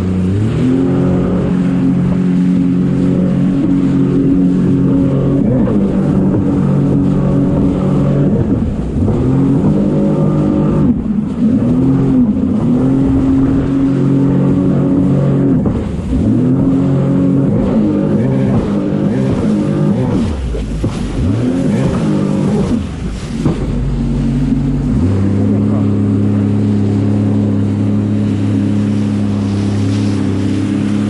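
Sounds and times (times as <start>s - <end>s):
jet ski engine running: 0.0s - 31.0s.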